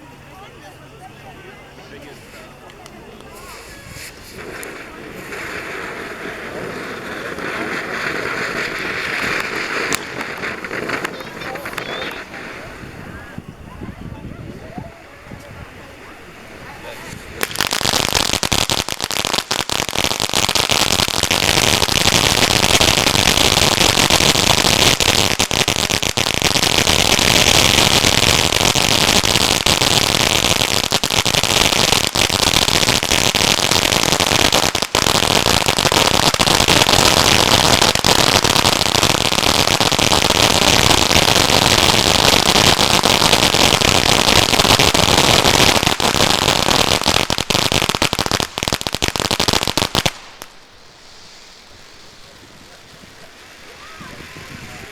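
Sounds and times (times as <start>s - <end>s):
firework hissing and crackling: 0.0s - 54.9s.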